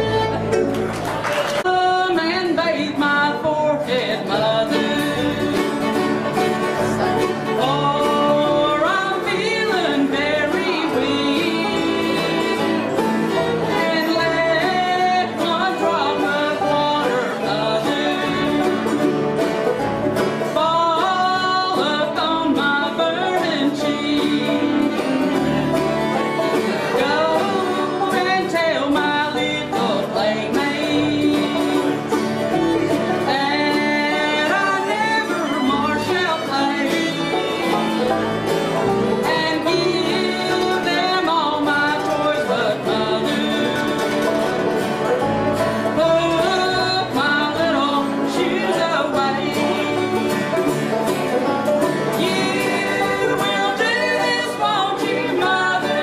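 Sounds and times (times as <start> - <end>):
woman singing country ballad: 1.4 - 56.0.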